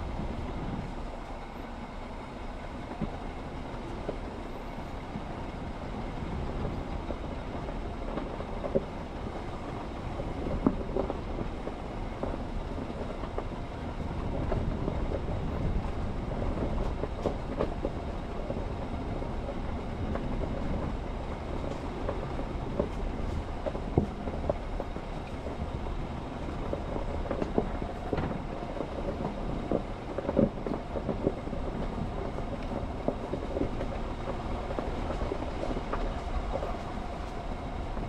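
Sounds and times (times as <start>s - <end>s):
vehicle road rumble: 0.0s - 38.0s.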